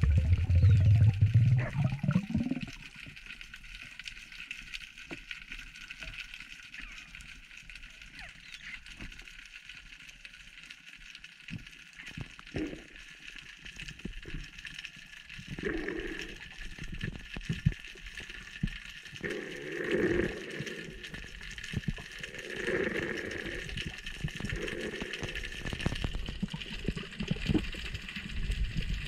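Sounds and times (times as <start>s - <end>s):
underwater clicks and crackles: 0.0s - 29.0s.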